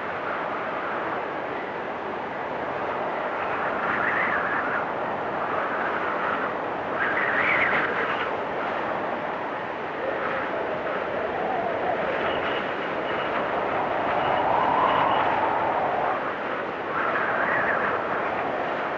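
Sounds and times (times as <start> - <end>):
blizzard wind gusting: 0.0 - 18.9.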